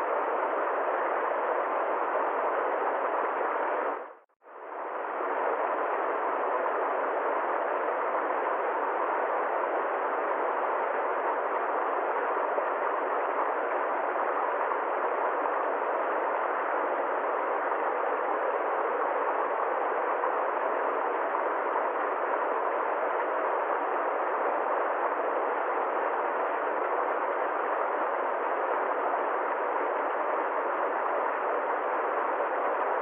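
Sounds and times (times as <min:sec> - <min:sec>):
steady hiss of noise: 0:00.0 - 0:33.0.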